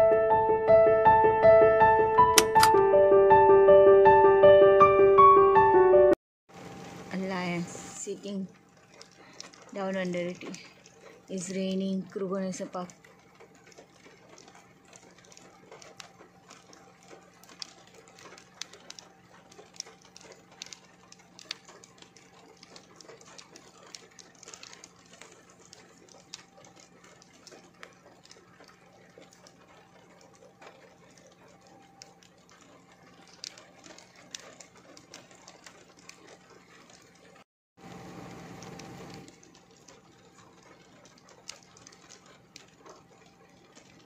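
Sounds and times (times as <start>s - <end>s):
rain drops tapping: 6.8s - 44.0s.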